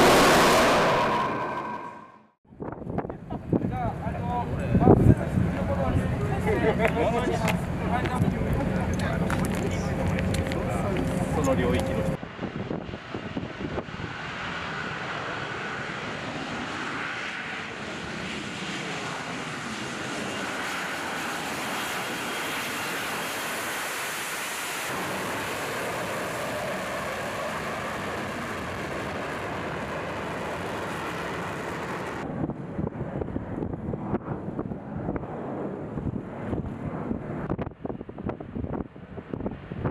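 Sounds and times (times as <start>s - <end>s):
faint jet whine: 0.0s - 2.4s, 3.3s - 38.0s
jet engine roar while hovering: 0.0s - 2.4s, 3.4s - 39.9s.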